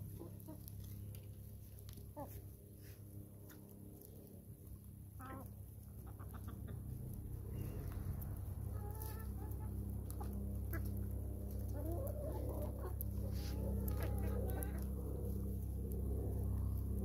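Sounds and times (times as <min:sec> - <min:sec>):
hens clucking: 0:00.0 - 0:02.6, 0:05.1 - 0:17.0
steady low hum: 0:00.0 - 0:17.0.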